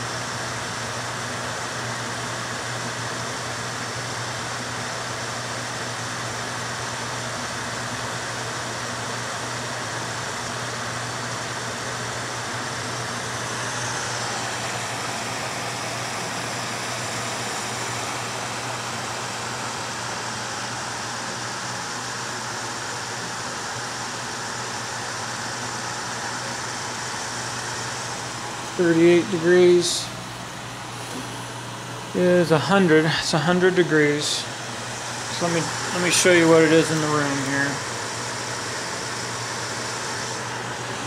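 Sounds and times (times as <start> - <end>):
fan blowing air through duct: 0.0 - 41.0.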